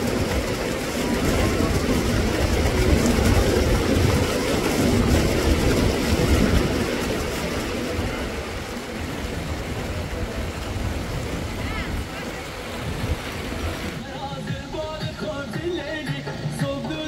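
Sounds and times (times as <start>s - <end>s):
water rushing through channels: 0.0s - 17.0s.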